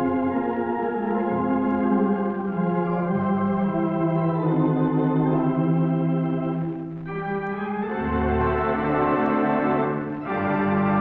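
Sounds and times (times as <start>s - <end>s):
pipe organ playing slow chords: 0.0s - 11.0s.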